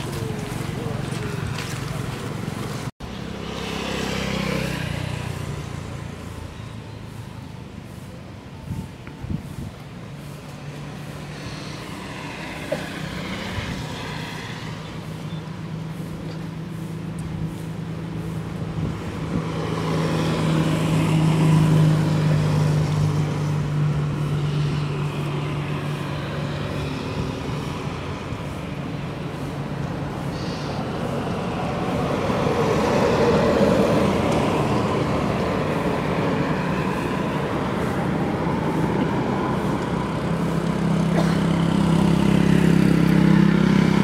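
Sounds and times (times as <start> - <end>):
vehicle engine hum passing: 0.0 - 44.0.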